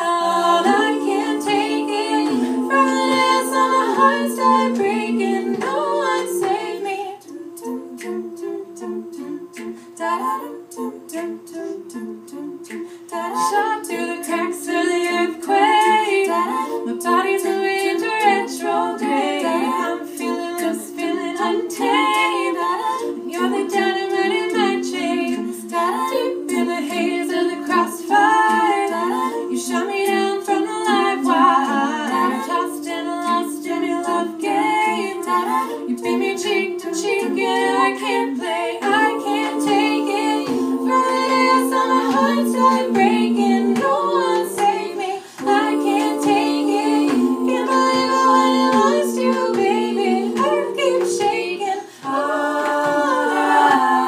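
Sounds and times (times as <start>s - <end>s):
female backing chords sung: 0.0s - 54.0s.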